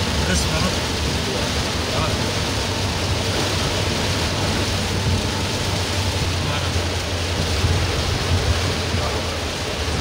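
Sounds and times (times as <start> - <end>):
heavy rain on car roof: 0.0 - 10.0
low engine and road rumble: 0.0 - 10.0.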